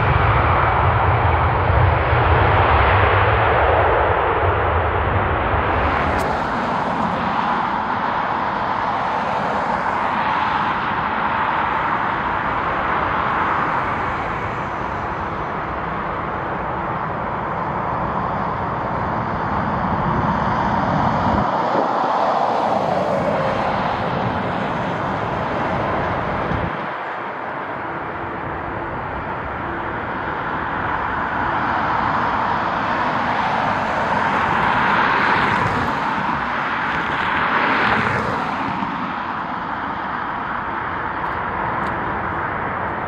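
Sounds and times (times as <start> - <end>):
jet engine whine: 0.0 - 43.0
jet engines rushing: 0.0 - 43.0.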